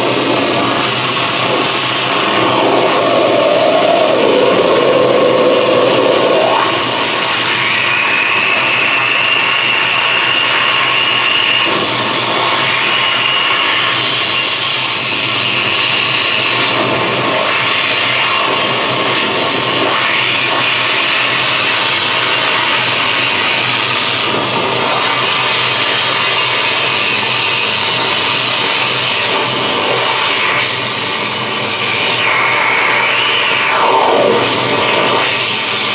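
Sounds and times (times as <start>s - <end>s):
high whine: 0.0s - 35.9s.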